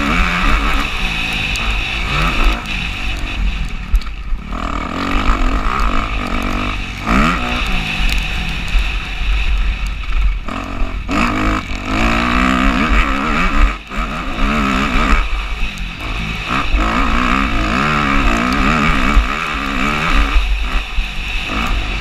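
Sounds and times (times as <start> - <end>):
motorbike engine revving: 0.0 - 22.0
steady low rumble: 0.0 - 22.0.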